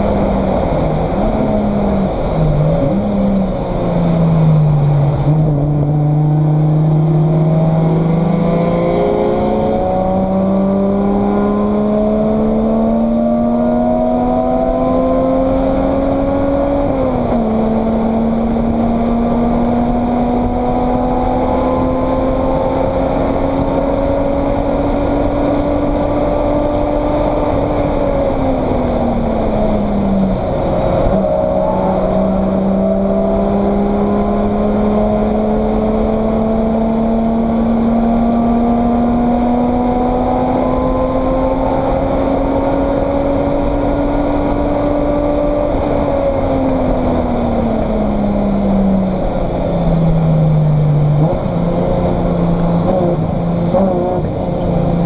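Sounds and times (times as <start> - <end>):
race car engine revving: 0.0 - 55.0
road and wind noise: 0.0 - 55.0.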